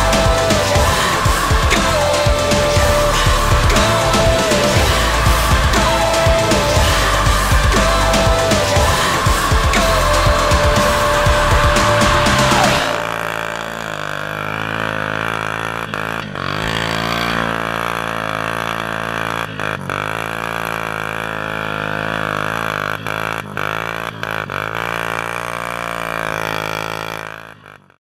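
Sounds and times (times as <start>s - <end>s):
quad engine running under load: 0.0s - 28.0s.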